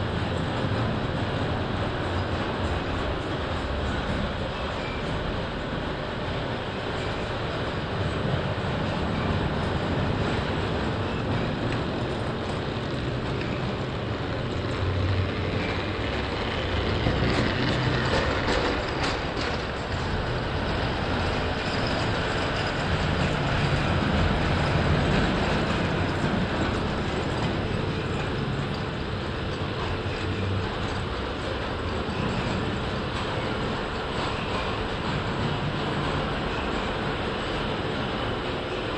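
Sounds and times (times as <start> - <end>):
toy trains running on metal track: 6.8 - 38.9.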